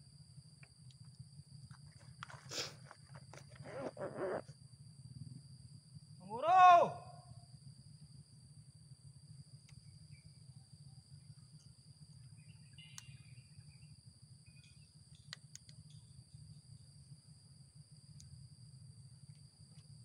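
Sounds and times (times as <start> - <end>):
faint chirps and ticks: 0.0 - 6.2, 7.5 - 20.0
high-pitched insect drone: 0.0 - 20.0.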